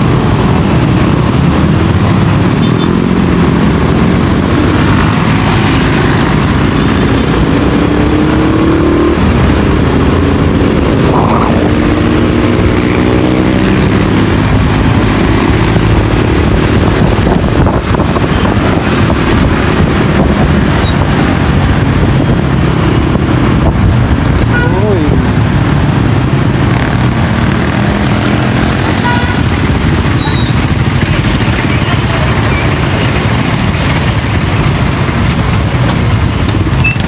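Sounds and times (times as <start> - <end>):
motorcycle engine accelerating: 0.0 - 37.0
steady rushing noise: 0.0 - 37.0.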